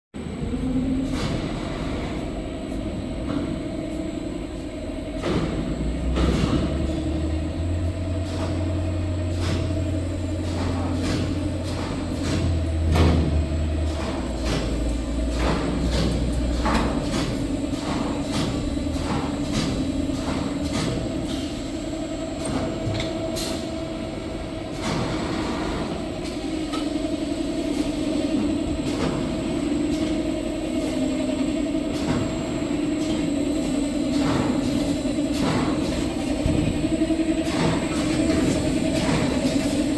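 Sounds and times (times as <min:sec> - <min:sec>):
machine mechanical hum: 0:00.2 - 0:39.9.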